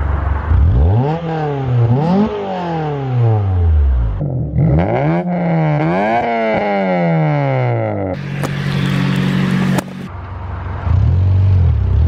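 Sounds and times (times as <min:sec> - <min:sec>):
car engine revving: 0:00.4 - 0:10.1.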